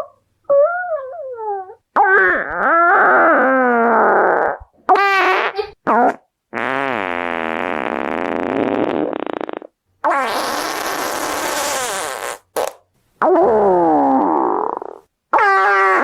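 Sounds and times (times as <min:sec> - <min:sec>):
fart sounds: 0:02.0 - 0:16.0.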